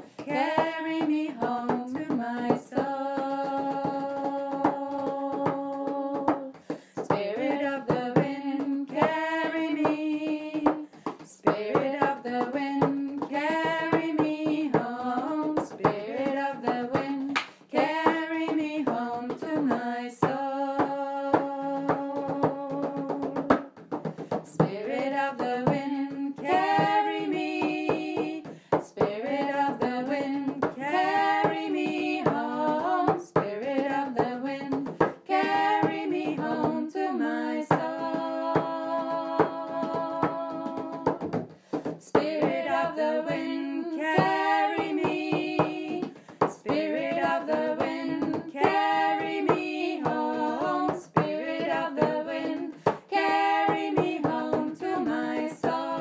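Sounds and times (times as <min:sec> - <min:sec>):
voices singing a slow chant: 0:00.0 - 0:10.9, 0:11.5 - 0:23.4, 0:24.6 - 0:41.2, 0:42.0 - 0:56.0.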